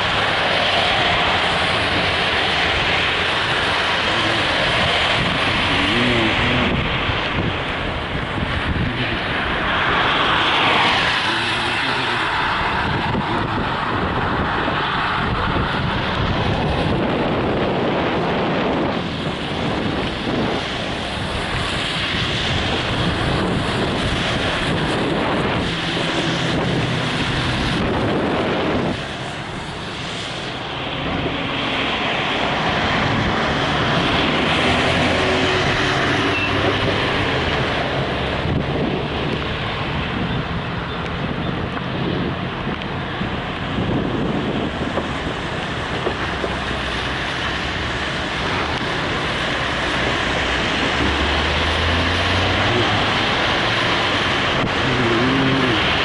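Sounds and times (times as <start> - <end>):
car road and engine noise: 0.0 - 56.0
wind buffeting microphone: 0.0 - 56.0.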